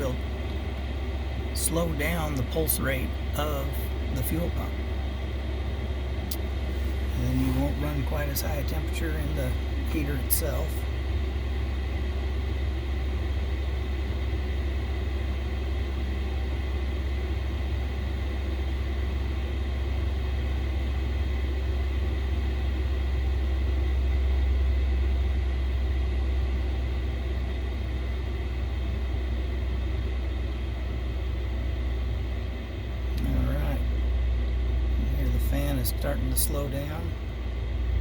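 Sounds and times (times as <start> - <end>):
diesel air heater running: 0.0 - 38.0.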